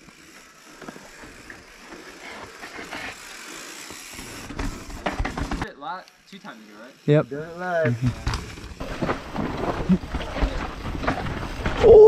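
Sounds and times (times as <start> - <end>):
bike rattling: 0.0 - 12.0
bike tyres rolling on rock: 0.0 - 12.0.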